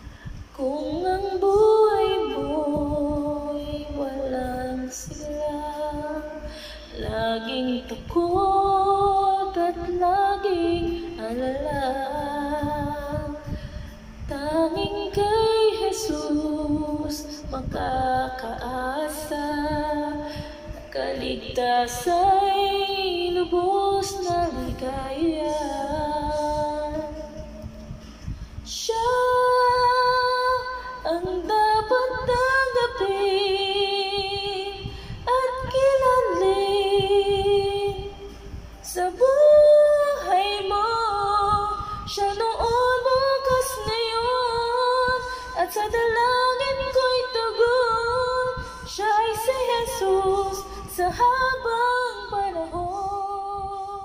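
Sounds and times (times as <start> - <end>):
woman singing into microphone: 0.0 - 54.0.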